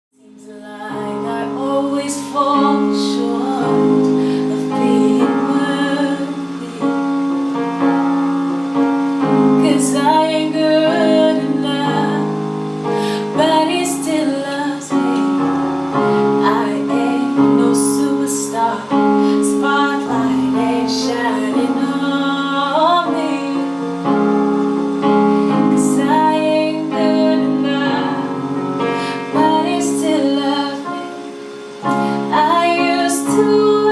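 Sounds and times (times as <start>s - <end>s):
sustained keyboard chords: 0.2s - 33.9s
woman singing slow melody: 0.2s - 33.9s.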